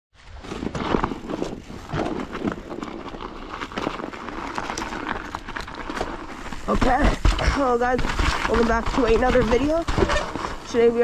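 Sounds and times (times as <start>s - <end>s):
bike crunching on snow: 0.2s - 11.0s.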